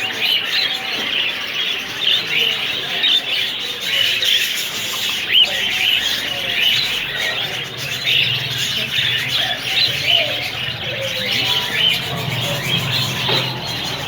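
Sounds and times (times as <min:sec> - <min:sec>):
caged birds chirping: 0:00.0 - 0:14.0.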